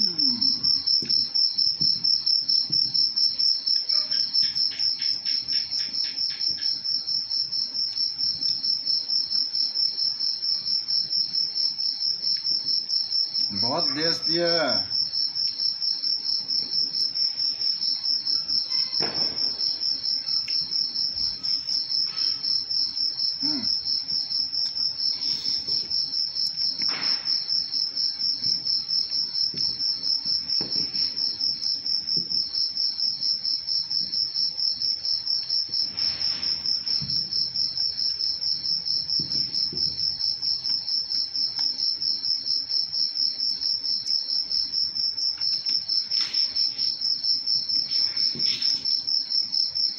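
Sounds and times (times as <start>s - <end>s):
cricket chirping: 0.0s - 49.9s.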